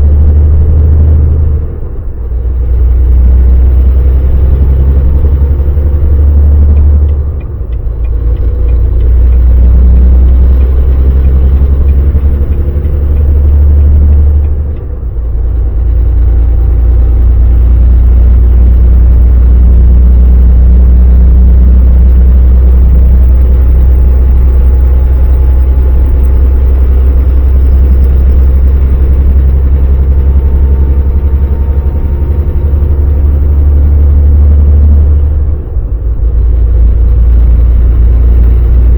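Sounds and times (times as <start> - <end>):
road noise: 0.0 - 38.9
truck engine droning: 0.0 - 38.9.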